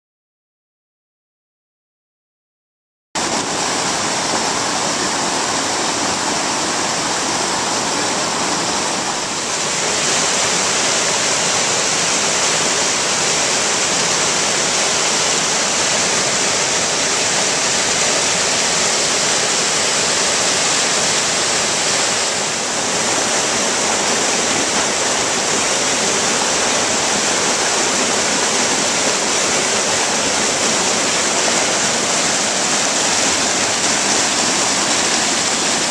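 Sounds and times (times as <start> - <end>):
stream rushing over rocks: 3.2 - 35.9.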